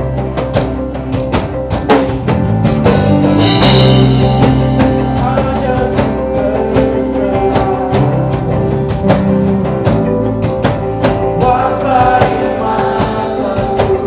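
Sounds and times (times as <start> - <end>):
band music: 0.0 - 14.0
drums beating: 0.0 - 14.0.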